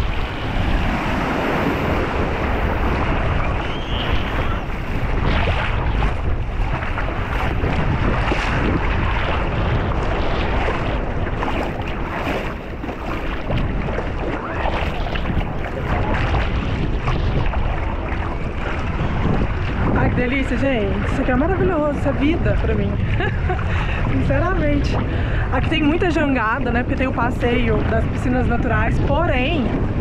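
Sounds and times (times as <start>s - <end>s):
sea waves washing at shore: 0.0s - 30.0s
wind buffeting microphone: 0.0s - 30.0s.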